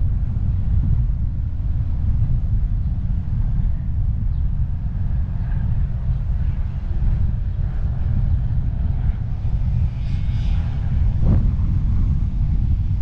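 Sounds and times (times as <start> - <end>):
car road noise: 0.0 - 13.0
wind buffeting microphone: 0.0 - 13.0.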